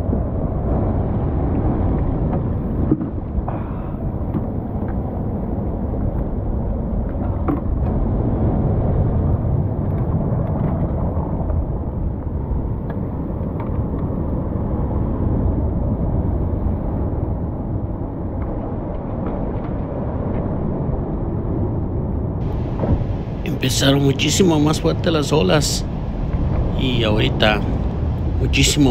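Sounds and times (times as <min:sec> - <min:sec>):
ocean surf on rocks and sand: 0:00.0 - 0:28.9.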